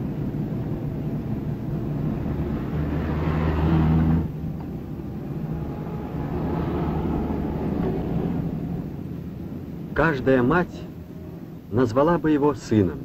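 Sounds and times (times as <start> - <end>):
cars driving past: 0.0 - 12.0
steady hum: 0.0 - 13.0.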